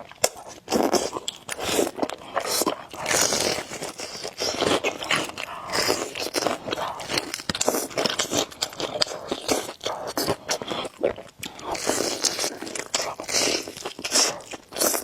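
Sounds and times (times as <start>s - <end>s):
chewing noodles: 0.0s - 15.0s
mouth clicks and crunches: 0.0s - 15.0s.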